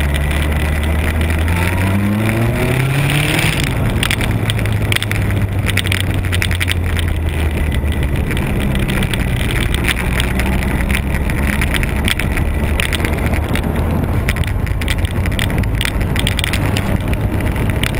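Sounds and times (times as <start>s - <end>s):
motorcycle engine at low revs: 0.0s - 17.9s
wind buffeting microphone: 0.0s - 17.9s.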